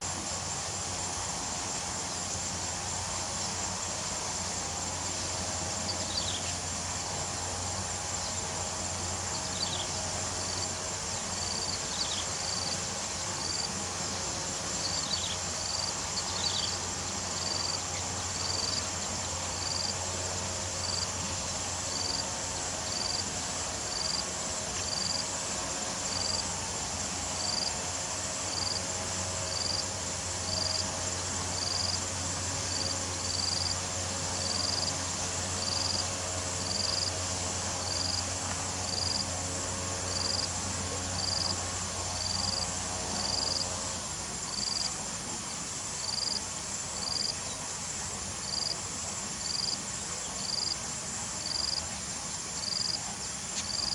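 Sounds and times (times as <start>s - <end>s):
high-pitched cricket chorus: 0.0s - 53.9s
short insect chirp: 2.1s - 53.9s.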